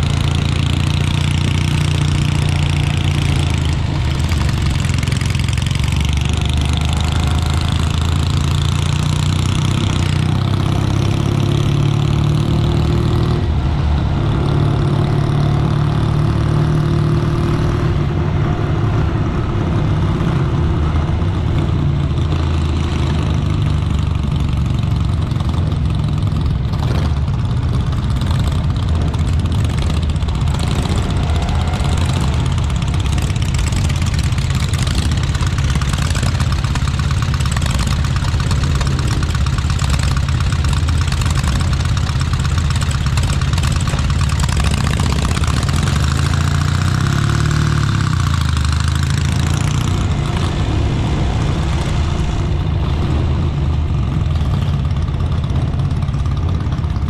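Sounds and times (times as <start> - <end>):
motorcycle engines idling: 0.0 - 10.9, 21.1 - 57.0.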